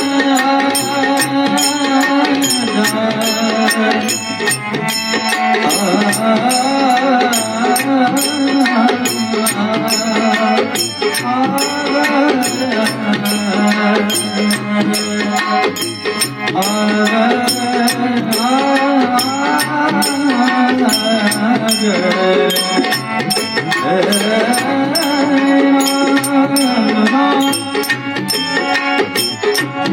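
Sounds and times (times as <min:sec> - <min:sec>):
harmonium: 0:00.0 - 0:29.9
person singing: 0:00.0 - 0:29.9
tabla: 0:00.0 - 0:29.9
bright sharp strikes: 0:00.4 - 0:29.8.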